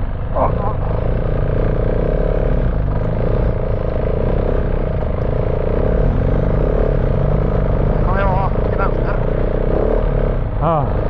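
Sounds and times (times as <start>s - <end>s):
rushing ride noise: 0.0s - 9.4s
motorcycle engine running: 0.0s - 11.0s.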